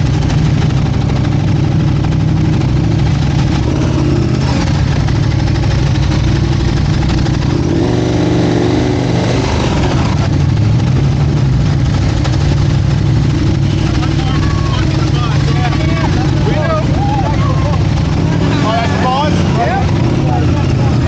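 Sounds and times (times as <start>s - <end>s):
motorcycle engines idling: 0.0s - 21.0s.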